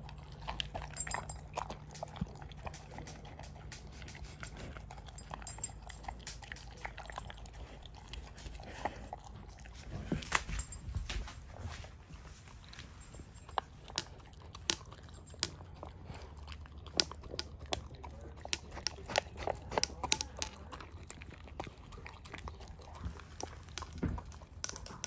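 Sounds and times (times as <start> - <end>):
dog crunching kibble in metal bowl: 0.0 - 11.0, 12.5 - 25.0.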